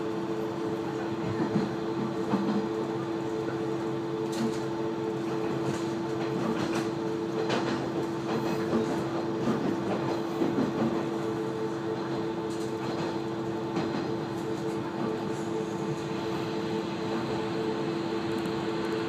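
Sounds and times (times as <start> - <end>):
railcar engine hum: 0.0 - 19.0.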